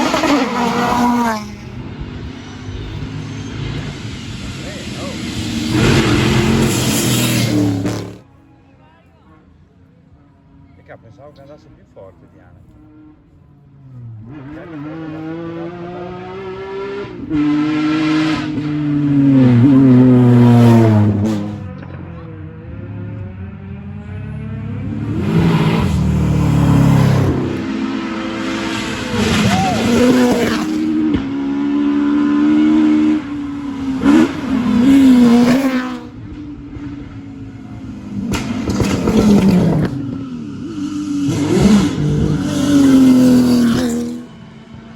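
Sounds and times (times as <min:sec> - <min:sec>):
rally car engine at full throttle: 0:00.0 - 0:08.3, 0:10.3 - 0:44.9.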